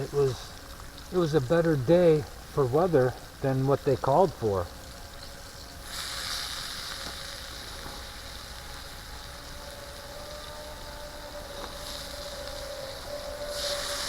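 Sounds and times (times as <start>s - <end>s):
steak sizzling on a grill: 0.0s - 14.0s.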